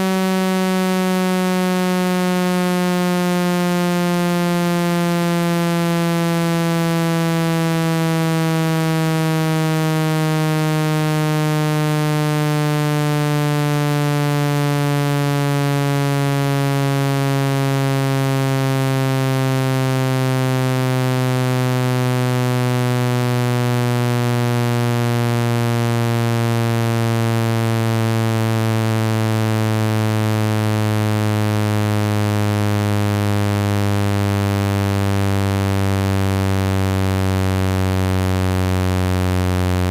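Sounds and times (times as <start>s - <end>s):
low electronic buzzing tone: 0.0s - 39.9s.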